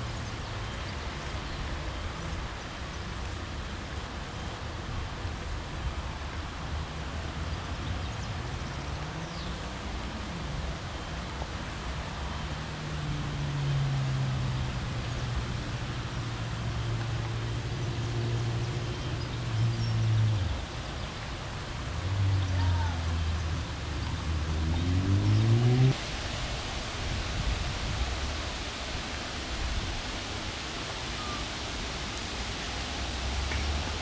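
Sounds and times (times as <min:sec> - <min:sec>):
outdoor background noise: 0:00.0 - 0:34.0
vehicle engine hum: 0:00.0 - 0:34.0.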